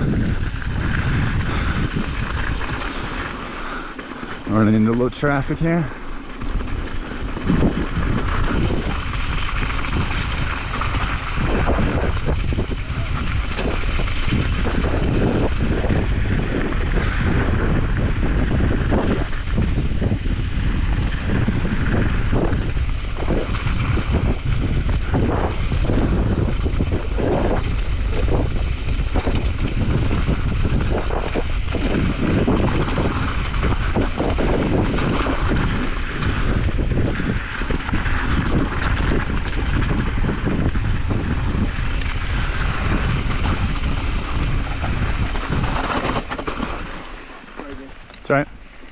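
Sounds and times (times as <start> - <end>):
tyres crunching over gravel: 0.0 - 15.7, 25.1 - 48.9
bike rattling over bumps: 0.0 - 48.9
wind rushing over microphone: 0.0 - 48.9.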